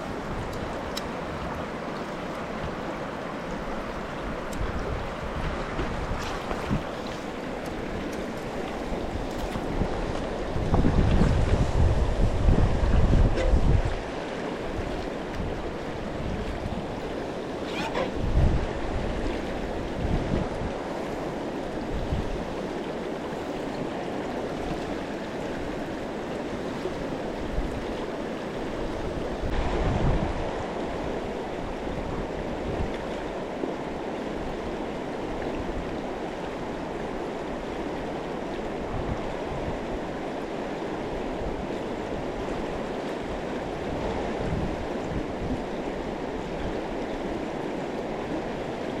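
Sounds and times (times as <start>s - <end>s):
river rushing over rocks: 0.0s - 49.0s
wind rumble on microphone: 0.0s - 49.0s.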